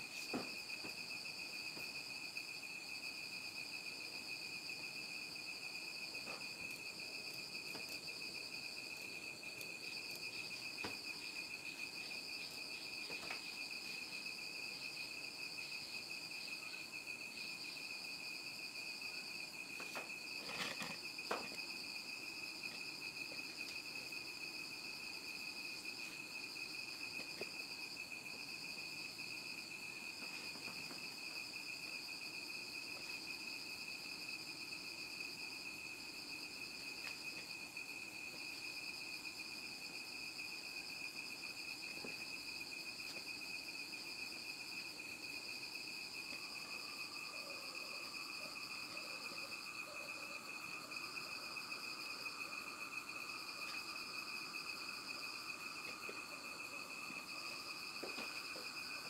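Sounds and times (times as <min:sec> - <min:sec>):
high-pitched insect trill: 0:00.0 - 0:59.0.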